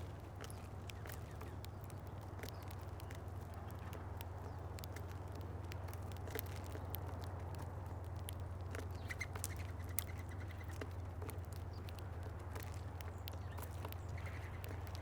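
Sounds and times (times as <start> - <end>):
birds pecking at seeds: 0.0 - 15.0
birds chirping: 0.2 - 5.1, 7.8 - 15.0.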